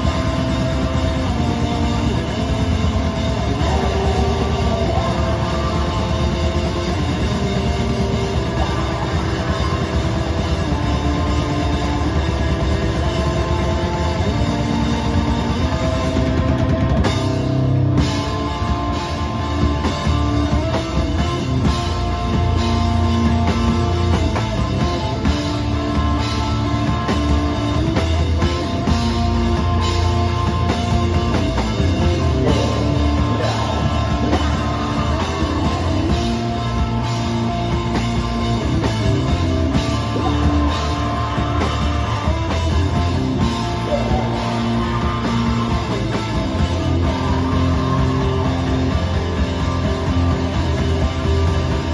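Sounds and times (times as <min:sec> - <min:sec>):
bass guitar: 0:00.0 - 0:51.9
drum kit: 0:00.0 - 0:51.9
electric guitar: 0:00.0 - 0:51.9.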